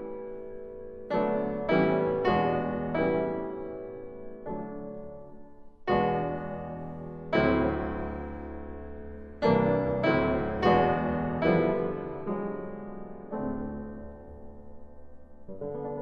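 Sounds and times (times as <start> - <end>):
slow solo piano chords: 0.0 - 16.0.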